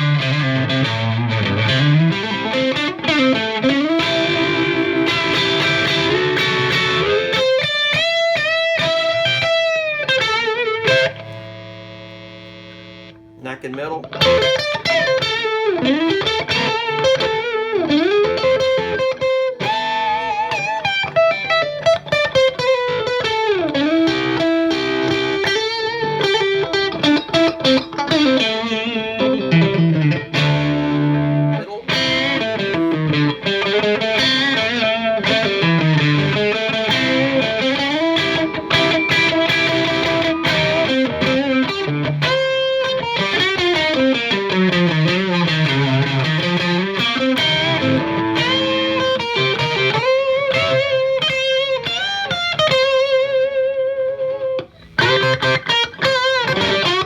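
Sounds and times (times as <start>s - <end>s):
distorted electric guitar lead: 0.0s - 57.0s.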